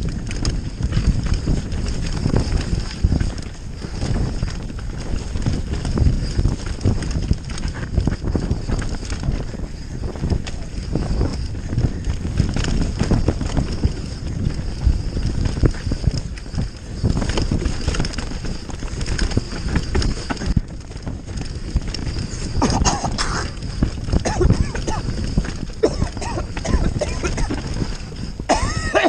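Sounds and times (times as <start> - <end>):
bike rattling and knocking: 0.0 - 29.0
bike tyres rumbling over dirt: 0.0 - 29.0
wind buffeting microphone: 0.0 - 29.0.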